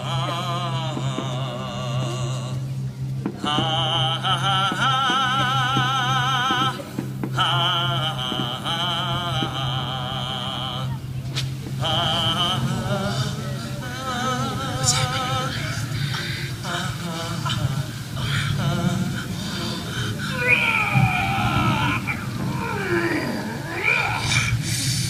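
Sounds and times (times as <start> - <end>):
low accompaniment tone: 0.0 - 24.7
person singing operatically: 0.0 - 25.0.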